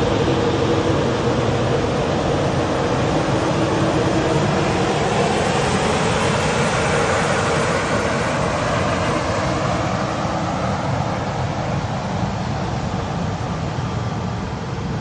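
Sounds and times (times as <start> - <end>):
jet airliner rushing noise: 0.0 - 14.2.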